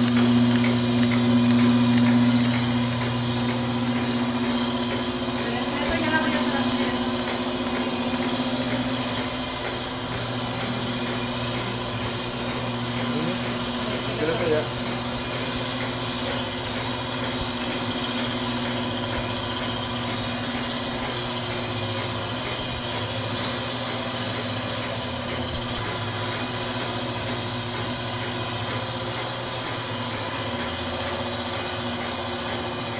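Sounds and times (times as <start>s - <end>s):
label press mechanical hum: 0.0s - 32.9s.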